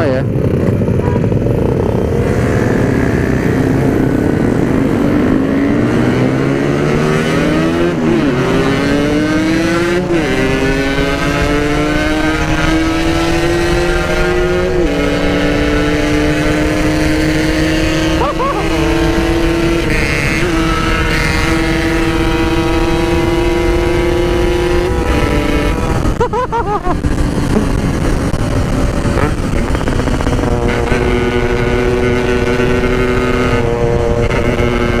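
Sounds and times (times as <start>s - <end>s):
motorcycle engine accelerating: 0.0s - 35.0s
wind on microphone: 0.0s - 35.0s.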